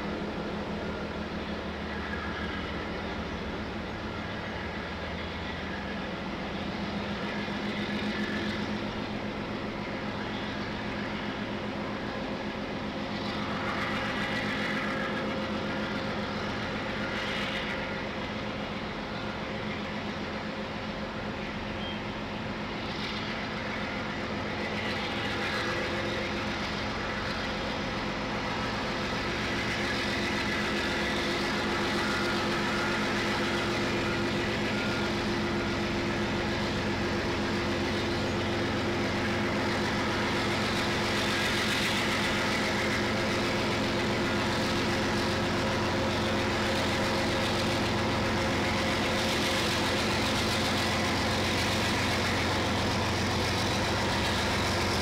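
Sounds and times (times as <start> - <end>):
diesel locomotive engines: 0.0 - 55.0.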